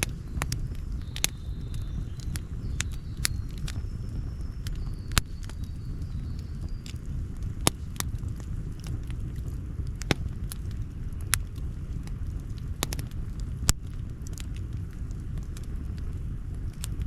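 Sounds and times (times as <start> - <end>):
campfire crackling and popping: 0.0 - 17.0
low rumble: 0.0 - 17.0.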